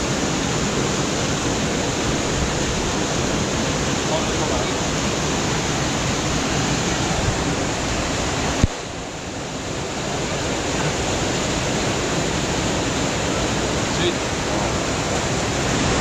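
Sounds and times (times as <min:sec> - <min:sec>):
rushing water: 0:00.0 - 0:16.0.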